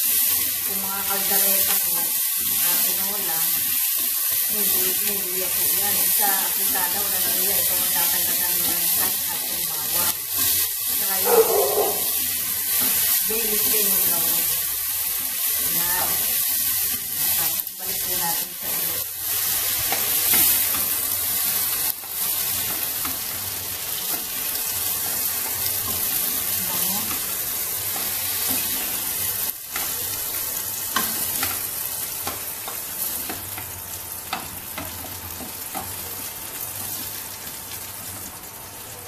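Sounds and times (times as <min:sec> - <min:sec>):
vegetables sizzling in hot oil: 0:00.0 - 0:39.0.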